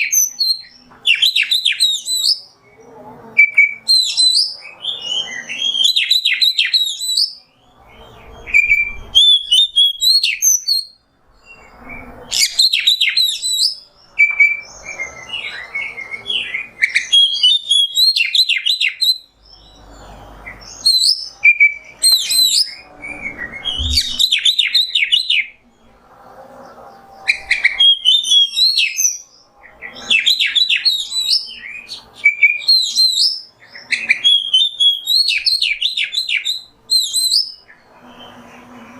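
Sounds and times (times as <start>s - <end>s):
bird singing whistled phrases: 0.0s - 2.8s, 3.4s - 19.8s, 20.4s - 25.6s, 27.2s - 29.3s, 29.9s - 38.3s.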